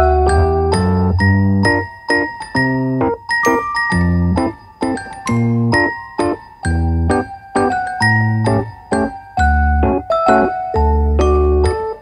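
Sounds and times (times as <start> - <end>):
keyboard chords over bass: 0.0 - 12.0.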